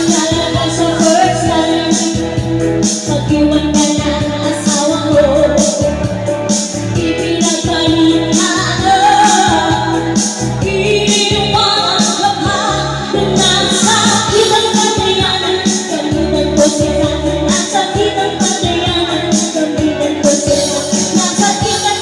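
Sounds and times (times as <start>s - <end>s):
backing track with beat: 0.0s - 22.0s
woman singing karaoke: 0.0s - 22.0s.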